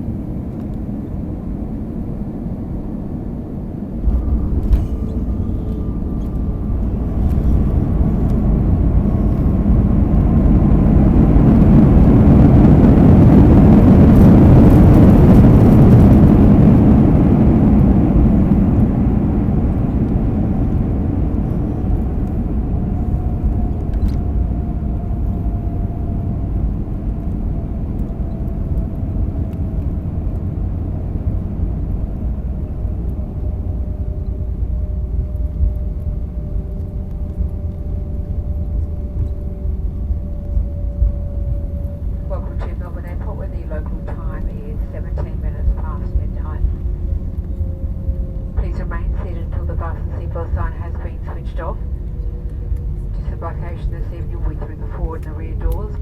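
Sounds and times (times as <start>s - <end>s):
jet engine reverse thrust roar: 0.0s - 56.0s
runway rumble: 0.0s - 56.0s.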